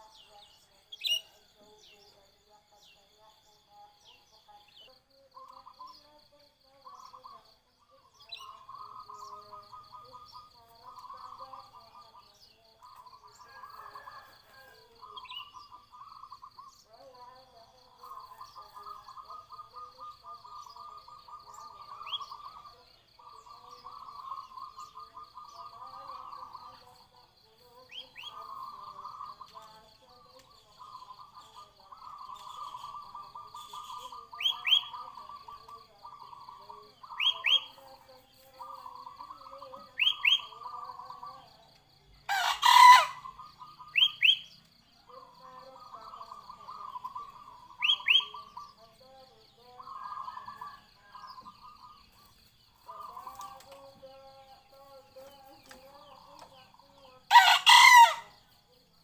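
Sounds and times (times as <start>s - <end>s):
caged birds trilling: 0.0s - 59.0s.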